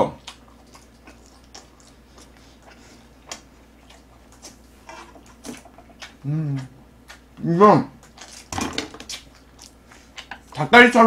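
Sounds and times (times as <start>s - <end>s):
chewing crispy chicken: 0.0s - 11.0s.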